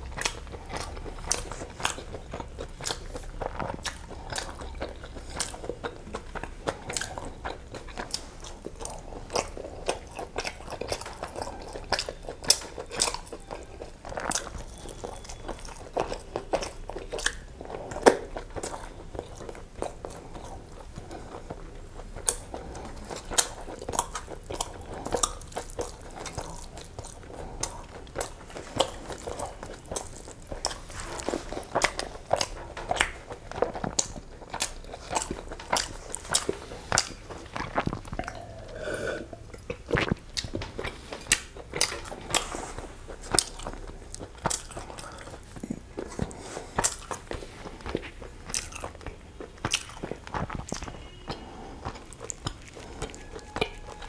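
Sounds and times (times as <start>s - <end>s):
chewing with wet smacks: 0.0s - 54.0s.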